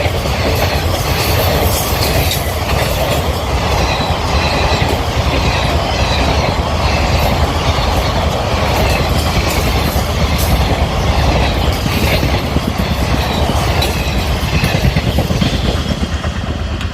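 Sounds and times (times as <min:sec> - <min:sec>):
train rumbling: 0:00.0 - 0:16.9
wheels clattering over rails: 0:00.0 - 0:16.9.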